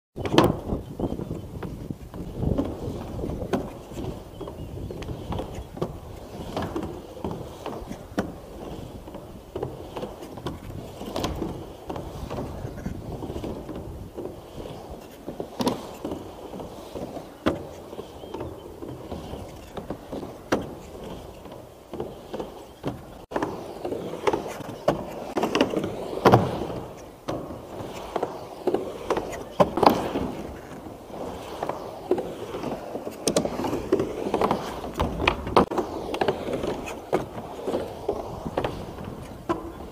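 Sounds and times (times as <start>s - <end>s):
skateboard knocks and clacks: 0.2s - 39.9s
skateboard wheels rumbling: 0.2s - 39.9s.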